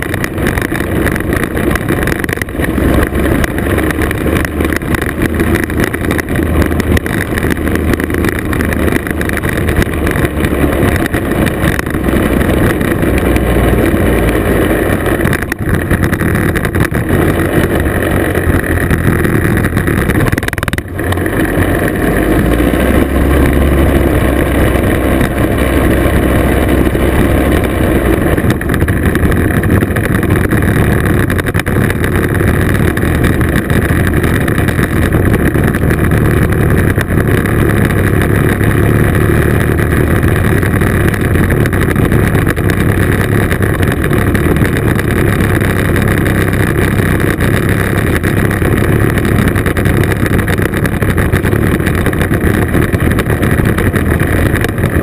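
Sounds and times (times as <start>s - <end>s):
road and wind noise: 0.0s - 55.0s
two-stroke scooter engine: 0.0s - 55.0s.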